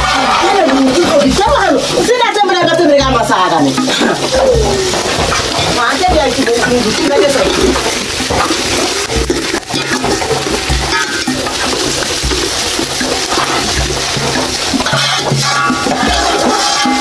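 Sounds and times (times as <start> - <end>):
food sizzling in a pot: 0.0 - 17.0
spoon stirring: 0.0 - 17.0.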